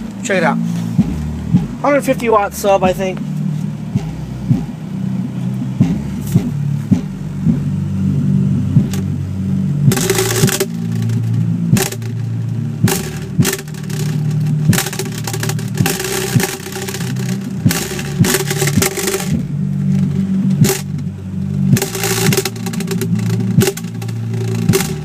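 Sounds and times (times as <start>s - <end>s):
music with heavy bass and drums: 0.0s - 25.0s.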